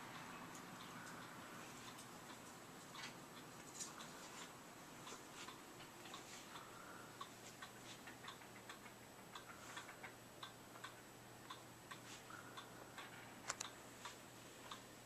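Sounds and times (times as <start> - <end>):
bird ticks and peeps: 0.1 - 4.5, 5.1 - 13.8.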